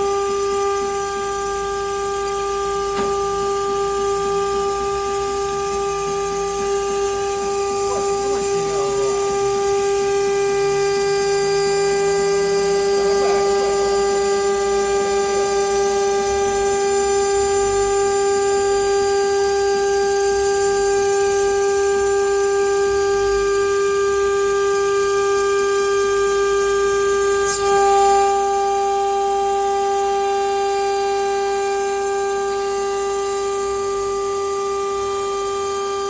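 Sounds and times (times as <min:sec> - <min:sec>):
machine spindle whine: 0:00.0 - 0:36.0.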